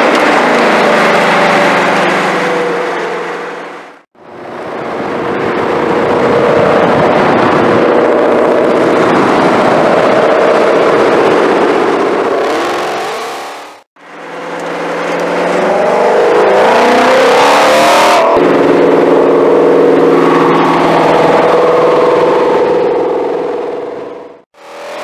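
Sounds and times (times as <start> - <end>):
car engine exhaust: 0.0 - 25.0.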